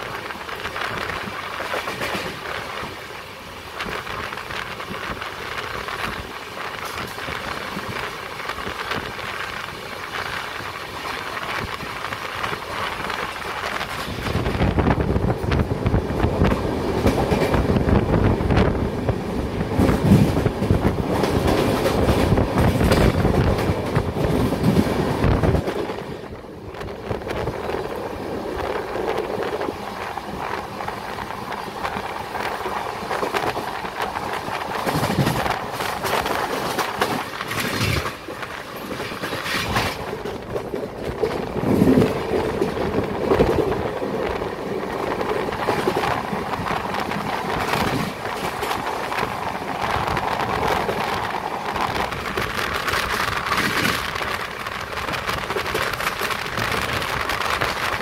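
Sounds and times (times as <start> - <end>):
train wheels rumbling on rails: 0.0 - 58.0
wheels clacking over rail joints: 3.8 - 58.0.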